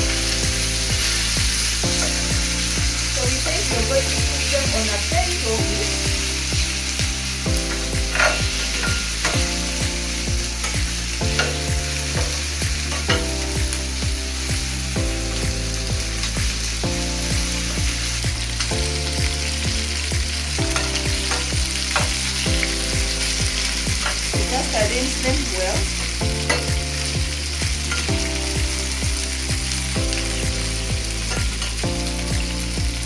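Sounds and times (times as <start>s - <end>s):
background music with a beat: 0.0s - 4.4s, 5.1s - 33.0s
chicken wings sizzling in a pan: 0.0s - 33.0s.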